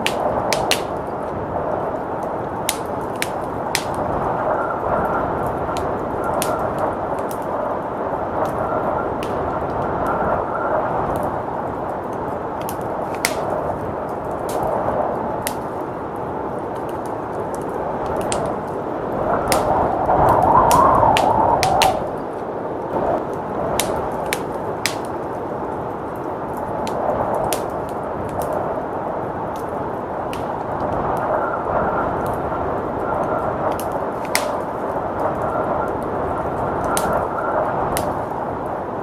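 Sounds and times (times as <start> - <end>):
fire popping: 0.0 - 39.0
howling blizzard wind: 0.0 - 39.0
wood fire crackling: 0.0 - 39.0.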